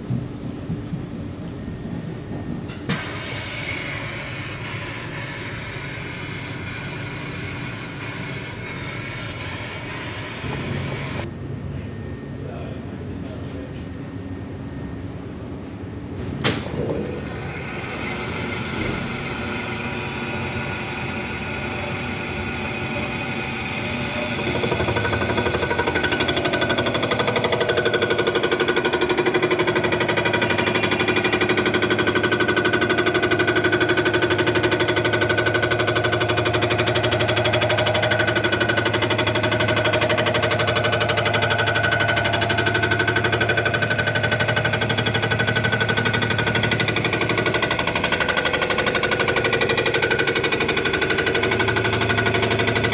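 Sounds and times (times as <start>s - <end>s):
machine running with rapid chatter: 0.0s - 11.3s, 16.6s - 52.9s.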